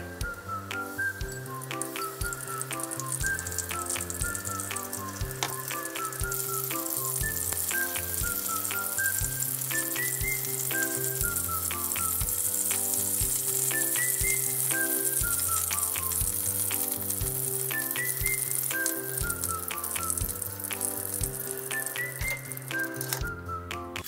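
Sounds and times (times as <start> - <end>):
background music with bass: 0.0 - 24.0
food sizzling in a frying pan: 0.9 - 23.4.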